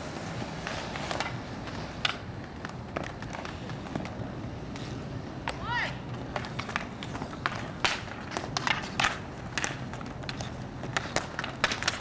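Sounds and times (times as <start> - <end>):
hockey sticks clacking: 0.0 - 12.0
inline skates rolling on asphalt: 0.0 - 12.0.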